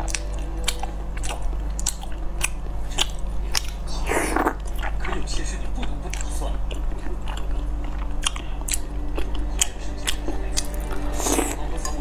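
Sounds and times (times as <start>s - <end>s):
steady low hum: 0.0s - 12.0s
wet chewing and mouth smacking: 0.0s - 12.0s.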